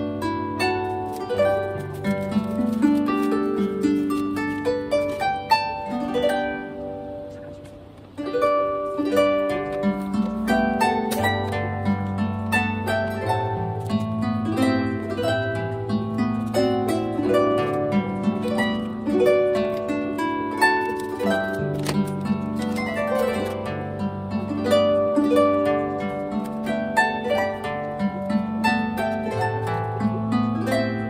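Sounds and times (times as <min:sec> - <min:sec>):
solo harp music: 0:00.0 - 0:31.0.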